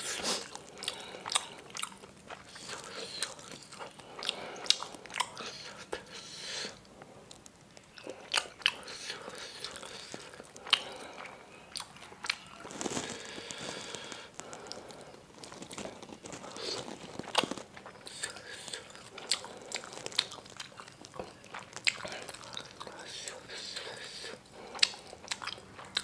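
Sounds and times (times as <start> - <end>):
wet chewing: 0.0 - 6.2, 7.3 - 26.0.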